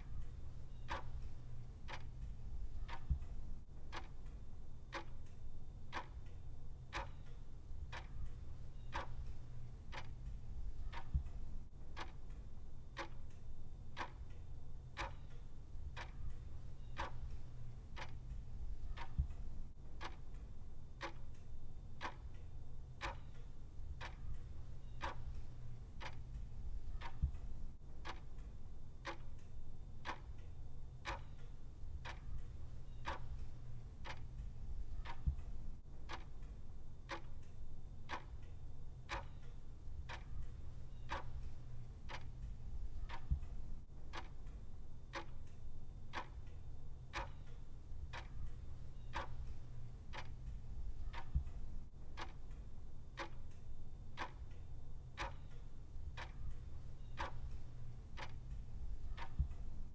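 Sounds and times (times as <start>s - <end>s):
clock ticking: 0.0s - 59.9s
low steady hum: 0.0s - 59.9s.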